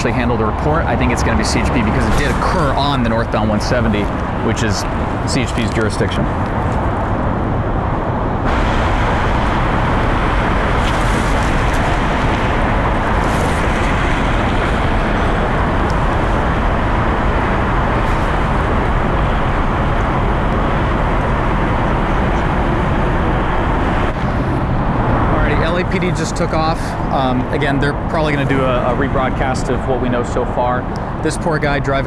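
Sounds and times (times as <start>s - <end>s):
freeway traffic roar: 0.0s - 32.0s.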